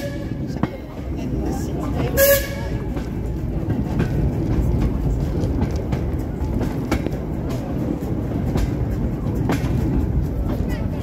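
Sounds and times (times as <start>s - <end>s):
train wheels rumbling on track: 0.0s - 11.0s
wheel clicks on rail joints: 0.0s - 11.0s.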